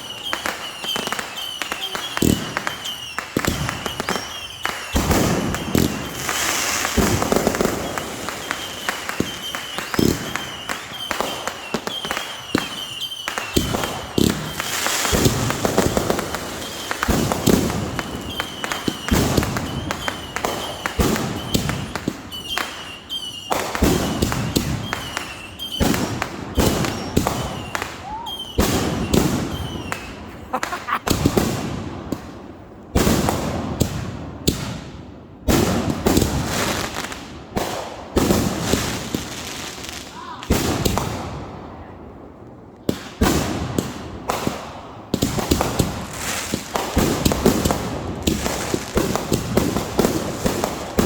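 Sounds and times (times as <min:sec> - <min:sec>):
fireworks crackling: 0:00.0 - 0:34.9, 0:35.5 - 0:41.5, 0:42.4 - 0:51.0
fireworks bangs and pops: 0:00.0 - 0:41.7, 0:42.4 - 0:51.0.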